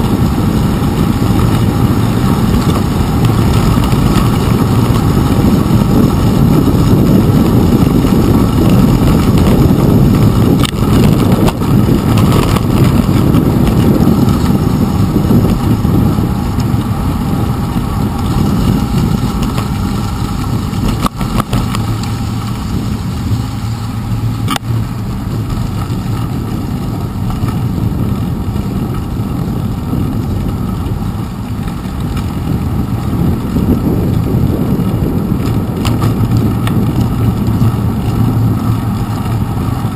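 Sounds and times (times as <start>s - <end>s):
bicycle tyres rolling on wet path: 0.0s - 39.9s
wind rumble: 0.0s - 39.9s.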